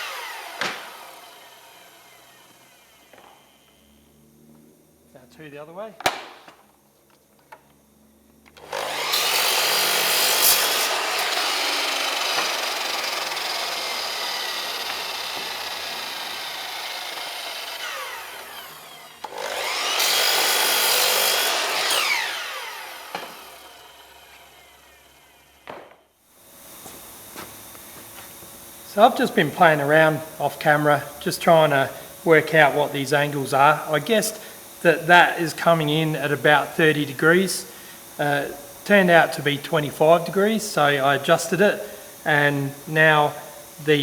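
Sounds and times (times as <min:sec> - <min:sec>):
electric saw cutting wood: 0:00.0 - 0:44.0.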